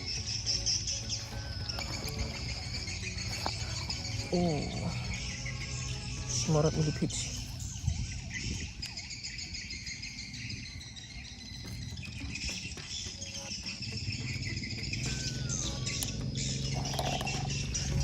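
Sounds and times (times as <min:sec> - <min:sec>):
birds chirping: 0:00.0 - 0:18.0
insects chirring: 0:00.0 - 0:18.0.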